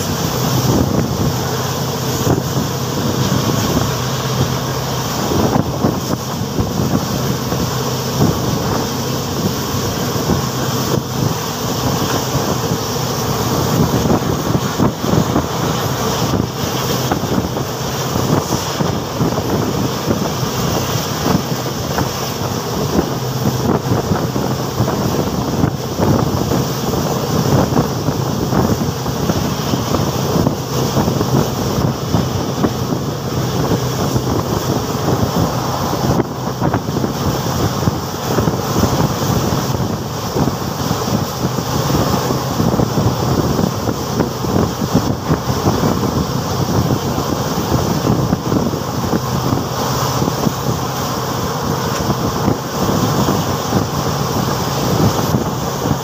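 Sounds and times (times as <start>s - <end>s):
train wheels rumbling on rails: 0.0s - 56.0s
wind rushing on microphone: 0.0s - 56.0s.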